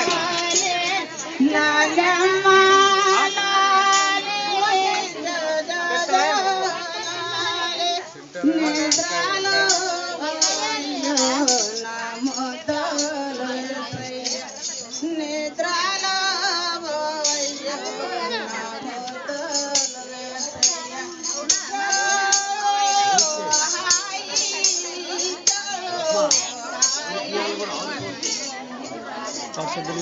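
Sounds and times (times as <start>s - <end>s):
women singing: 0.0s - 30.0s.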